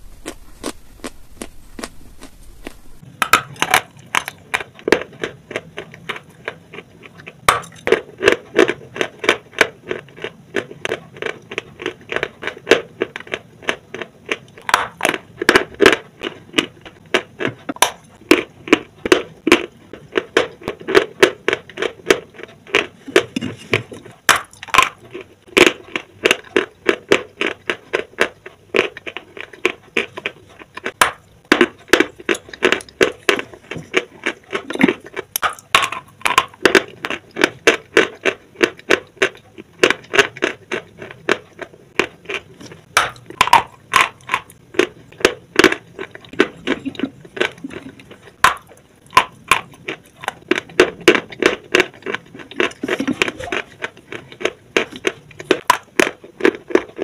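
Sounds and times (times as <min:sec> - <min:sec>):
crisp crunching bites: 0:00.0 - 0:57.0.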